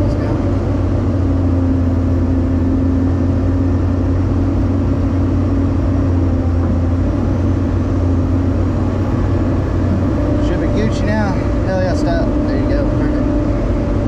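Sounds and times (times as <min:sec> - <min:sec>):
diesel engine droning with whine: 0:00.0 - 0:14.0.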